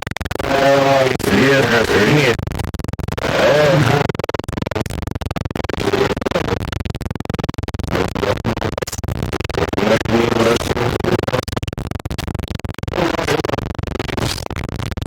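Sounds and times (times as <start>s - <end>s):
tv static crackling: 0.0s - 15.0s.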